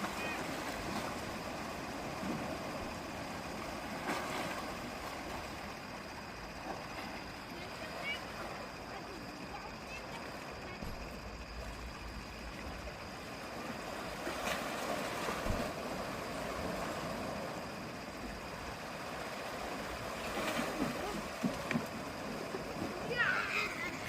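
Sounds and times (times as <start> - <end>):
small waves breaking: 0.0 - 24.0.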